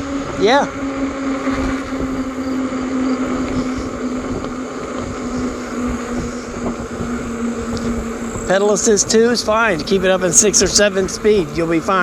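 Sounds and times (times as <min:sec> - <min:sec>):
electric bike motor hum: 0:00.0 - 0:12.0
wind rumbling on microphone: 0:00.0 - 0:12.0.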